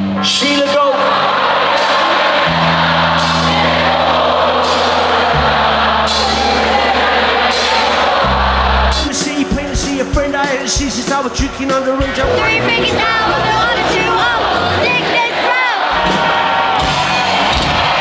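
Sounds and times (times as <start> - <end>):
crowd singing and cheering: 0.0 - 18.0
live band playing: 0.0 - 18.0.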